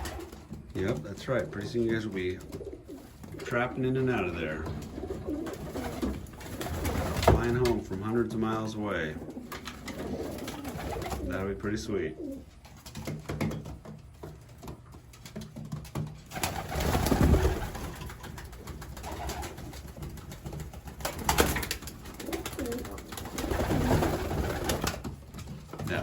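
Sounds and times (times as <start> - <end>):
wings scuffling and rustling: 0.0 - 8.0, 9.2 - 11.4, 12.2 - 26.0
pigeons cooing: 0.0 - 12.6, 16.3 - 26.0.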